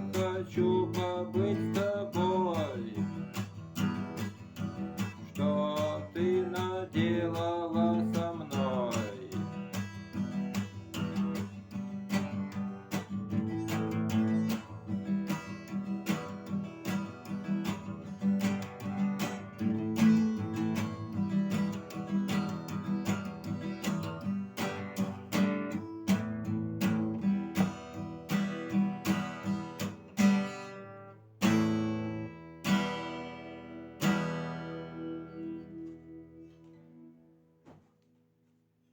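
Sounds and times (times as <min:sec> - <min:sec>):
acoustic guitar strumming: 0:00.0 - 0:37.9.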